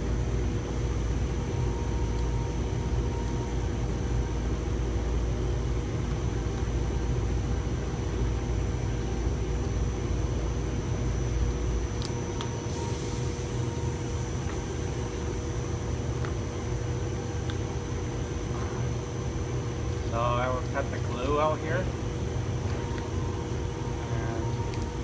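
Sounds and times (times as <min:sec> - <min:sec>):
faint even hum: 0:00.0 - 0:25.0.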